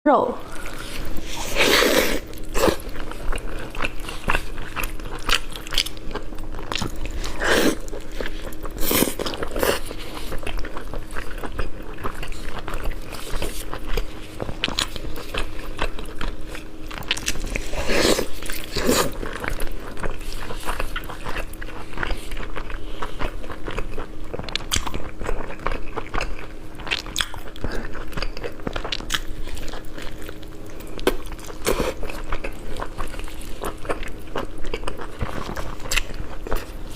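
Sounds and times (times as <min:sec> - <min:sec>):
faint steady hum: 0:00.1 - 0:36.9
person chewing close up: 0:00.4 - 0:36.9.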